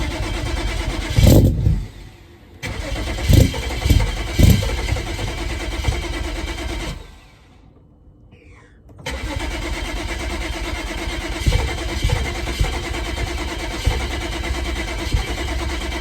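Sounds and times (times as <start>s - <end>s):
car engine cranking: 0.0s - 7.4s, 9.0s - 16.0s.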